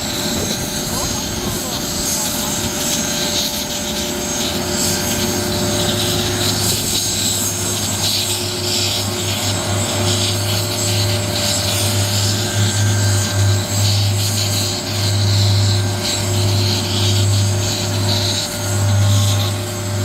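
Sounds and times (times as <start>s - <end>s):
helicopter turbine whine: 0.0s - 20.0s.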